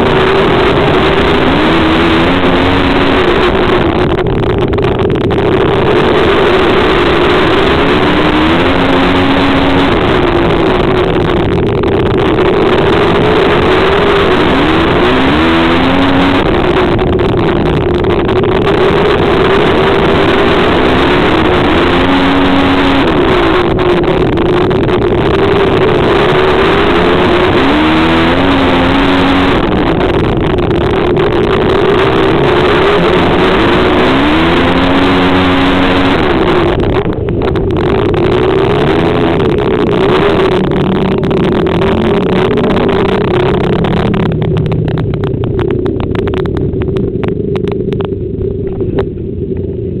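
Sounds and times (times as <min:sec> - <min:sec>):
racing motorcycle engines: 0:00.0 - 0:50.0.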